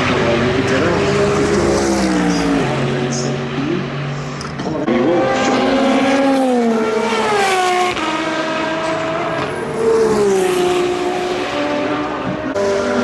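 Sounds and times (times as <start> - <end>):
race cars passing by: 0.0 - 13.0.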